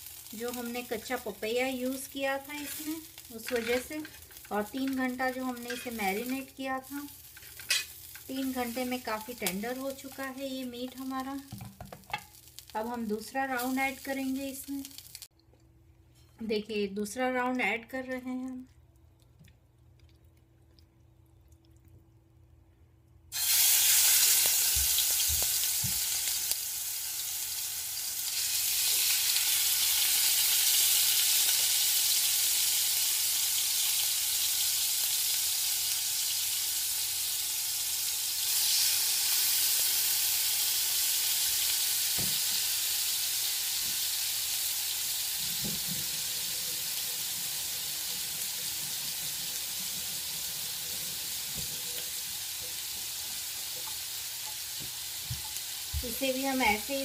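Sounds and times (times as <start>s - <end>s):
meat sizzling in oil: 0.0s - 15.3s, 23.3s - 57.0s.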